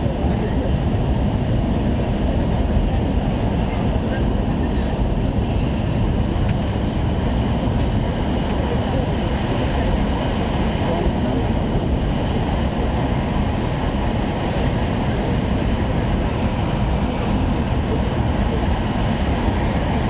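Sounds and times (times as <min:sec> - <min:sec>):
train cabin rumbling: 0:00.0 - 0:20.0.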